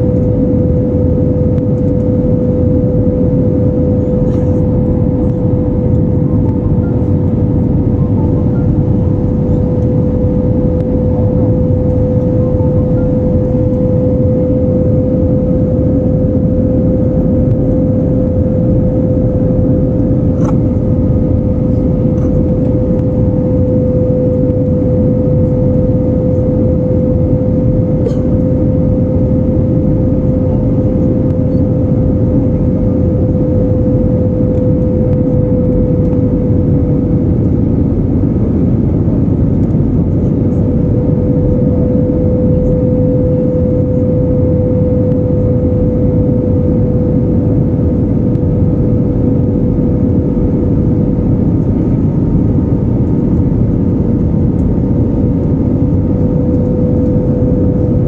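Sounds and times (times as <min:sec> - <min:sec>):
constant mid-pitched hum: 0:00.0 - 0:58.0
jet engines and airflow rushing: 0:00.0 - 0:58.0.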